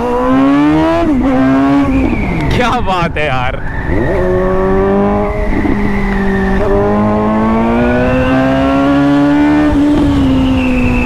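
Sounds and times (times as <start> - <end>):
motorcycle engine accelerating: 0.0 - 2.7, 3.6 - 11.0.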